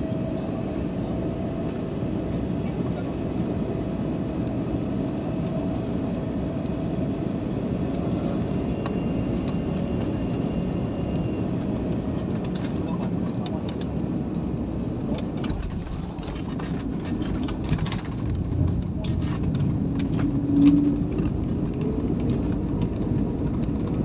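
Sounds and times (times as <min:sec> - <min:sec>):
passenger jet noise: 0:00.0 - 0:24.0.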